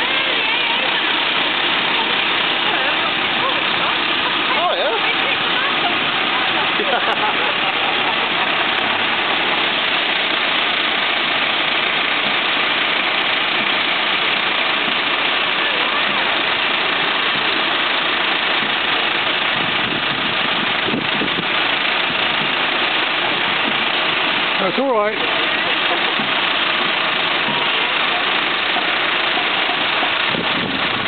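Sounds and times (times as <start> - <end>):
steady noisy hiss: 0.0 - 31.0
tractor diesel engine running: 0.0 - 31.0.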